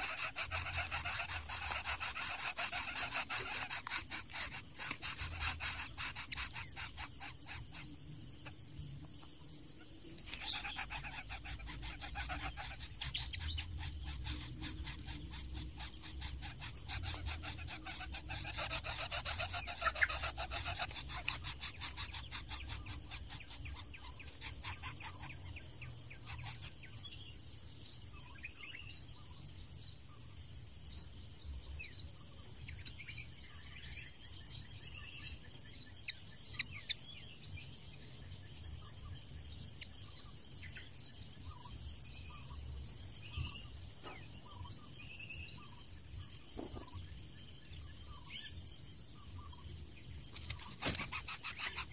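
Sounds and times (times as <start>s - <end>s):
high insect drone: 0.0s - 51.9s.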